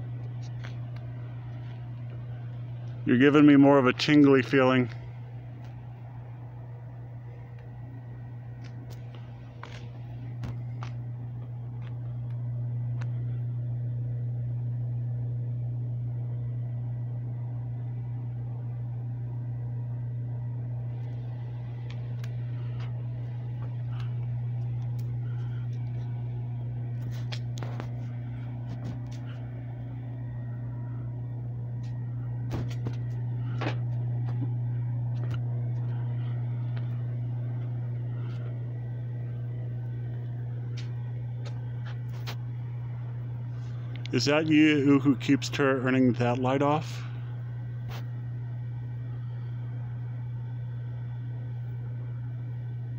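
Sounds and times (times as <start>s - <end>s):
low mechanical hum: 0.0s - 52.9s.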